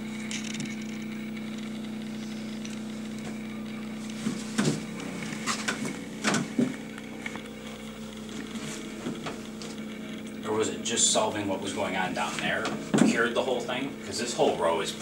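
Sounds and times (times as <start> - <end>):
bass shakers humming: 0.0 - 15.0.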